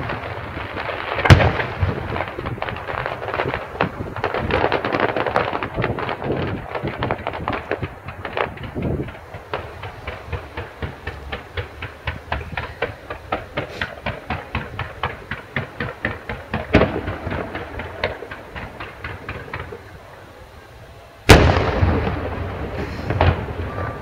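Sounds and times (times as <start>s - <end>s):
loud firework bang echoing: 0.0s - 19.9s, 21.3s - 24.0s
fireworks cracking: 0.0s - 24.0s.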